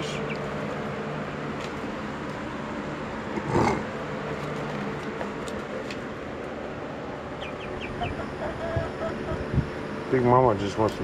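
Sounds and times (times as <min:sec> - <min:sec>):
electric fans humming: 0:00.0 - 0:11.0.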